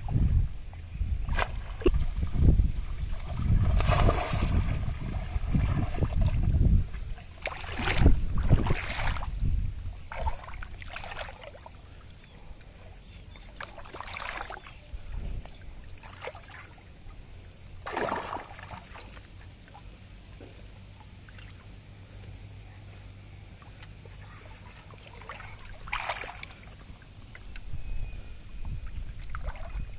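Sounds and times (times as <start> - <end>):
muddy water splashing and sloshing: 1.0 - 22.2, 23.3 - 27.7, 28.6 - 29.9.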